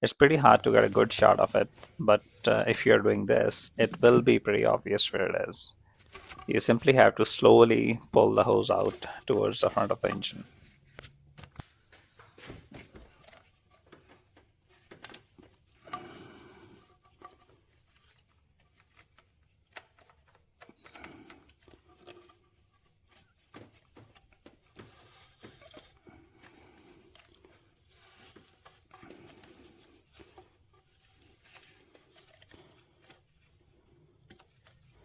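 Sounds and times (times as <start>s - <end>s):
rubber hose rubbing and scraping: 0.2s - 35.0s.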